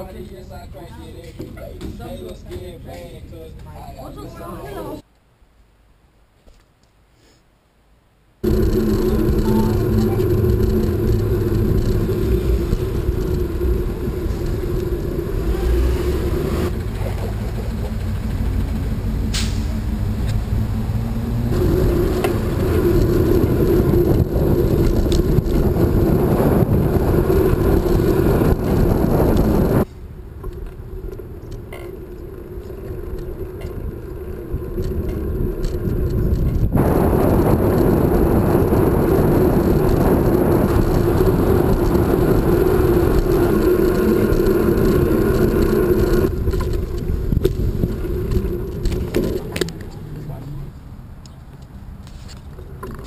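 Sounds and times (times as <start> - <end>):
bicycle tyre rumble: 8.4 - 53.0
wind noise: 8.4 - 53.0.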